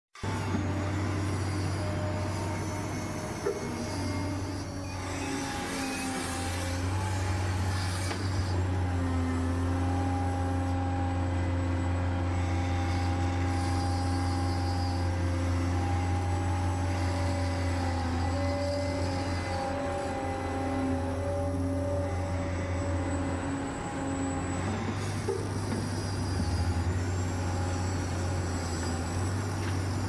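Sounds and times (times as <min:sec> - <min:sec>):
hydraulic pump humming and whining: 0:00.2 - 0:30.0.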